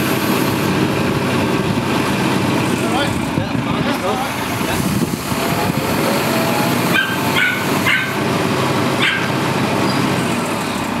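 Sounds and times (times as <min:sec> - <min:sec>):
crane engine running: 0:00.0 - 0:11.0.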